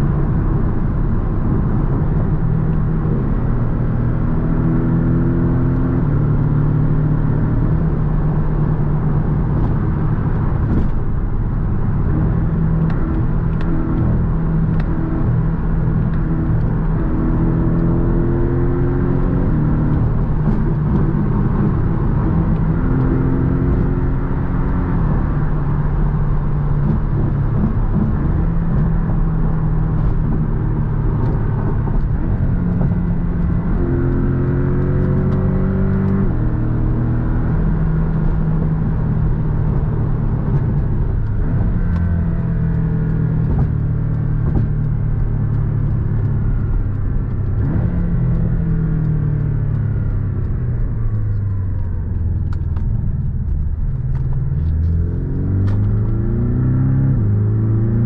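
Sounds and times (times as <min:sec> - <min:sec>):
car engine cruising: 0:00.0 - 0:58.0.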